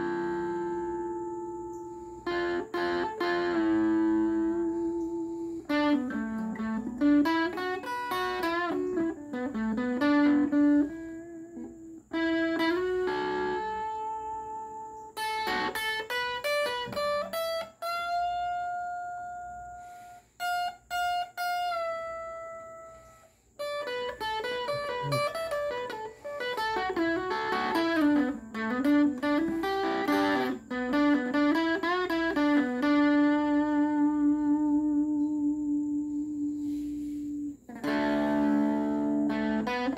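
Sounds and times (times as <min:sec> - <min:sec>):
solo guitar melody: 0:00.0 - 0:39.9.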